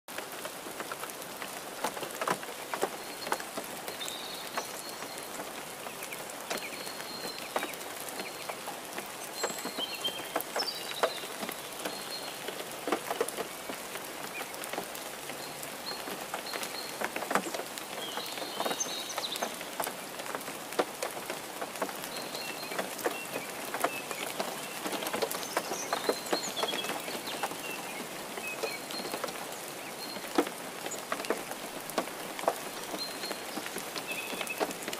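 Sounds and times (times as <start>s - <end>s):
raindrops pattering: 0.1s - 34.9s
steady rain falling: 0.1s - 34.9s.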